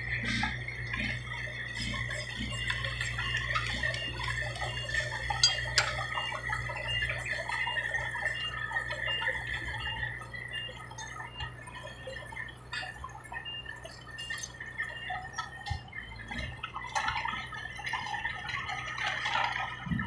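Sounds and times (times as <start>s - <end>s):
steady high whine: 0.0s - 16.5s
truck engines rumbling: 0.0s - 20.0s.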